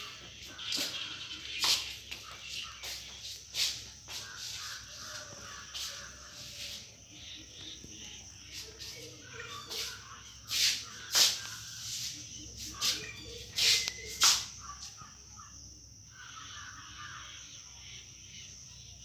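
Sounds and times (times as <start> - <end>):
harsh bird calls: 0.0 - 19.0.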